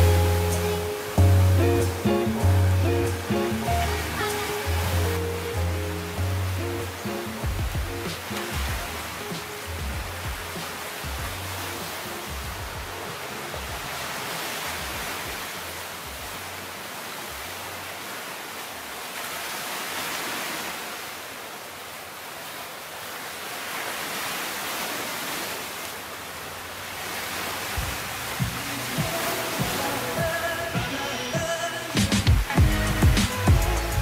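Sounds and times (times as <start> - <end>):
ocean waves breaking on beach: 0.0 - 34.0.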